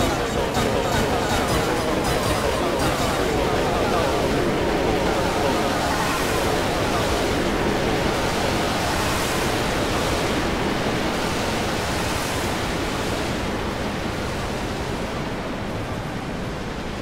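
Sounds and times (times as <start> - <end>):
dense wash of overlapping noise: 0.0 - 17.0.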